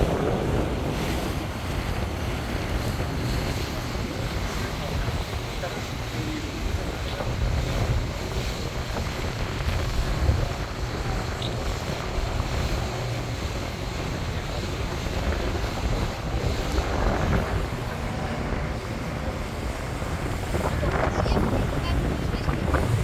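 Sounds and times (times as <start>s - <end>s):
boat engine: 0.0s - 23.0s
rushing water: 0.0s - 23.0s
wind buffeting the microphone: 0.0s - 23.0s.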